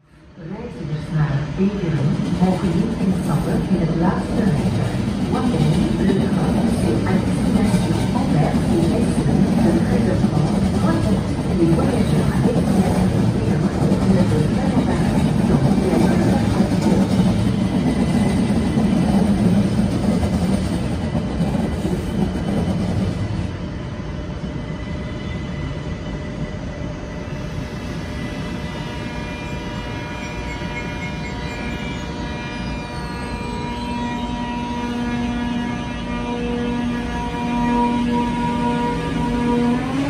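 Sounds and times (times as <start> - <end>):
electric train rumbling: 0.0 - 40.0.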